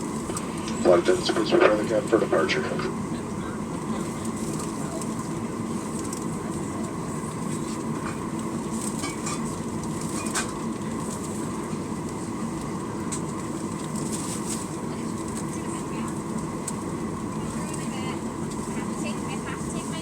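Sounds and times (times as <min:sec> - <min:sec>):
aircraft cabin rumble: 0:00.0 - 0:20.0.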